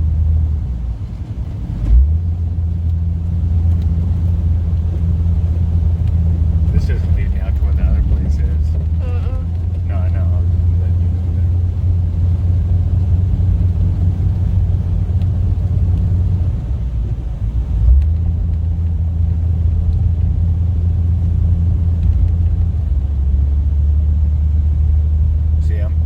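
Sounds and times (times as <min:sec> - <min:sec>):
car engine rumble: 0:00.0 - 0:26.0.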